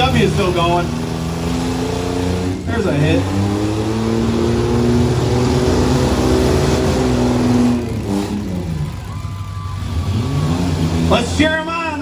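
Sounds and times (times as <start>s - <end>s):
truck engines revving hard: 0.0s - 12.0s.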